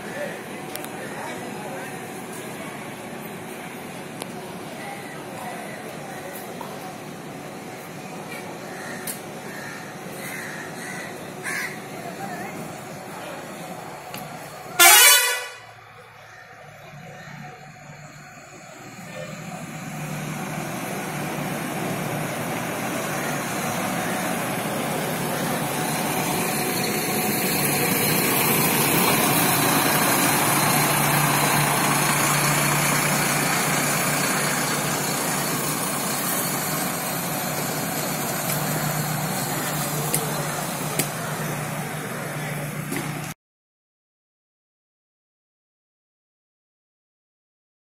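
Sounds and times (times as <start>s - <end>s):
bus diesel engine pulling away: 0.0s - 43.4s.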